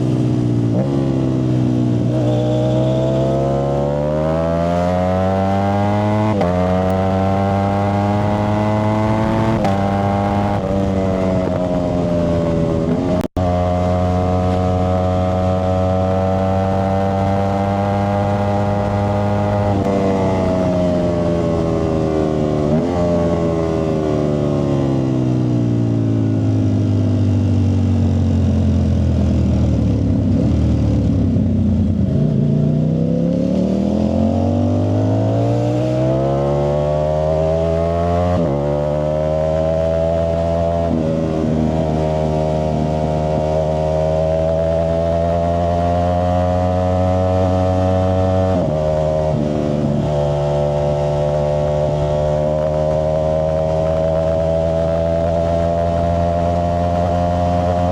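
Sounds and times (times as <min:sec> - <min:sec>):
motorcycle engine running: 0:00.0 - 0:36.0, 0:37.6 - 0:57.9.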